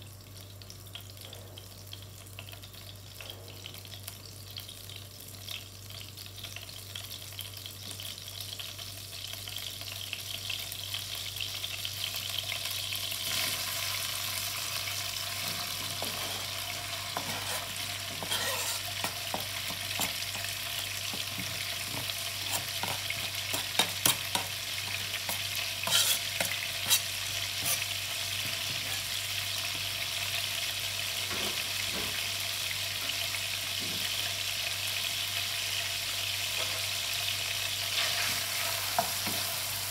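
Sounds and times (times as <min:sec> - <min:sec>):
butter sizzling in a frying pan: 0:00.0 - 0:39.9.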